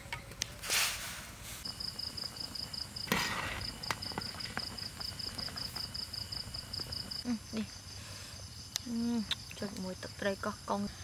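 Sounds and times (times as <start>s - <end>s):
cricket trilling: 1.6s - 11.0s.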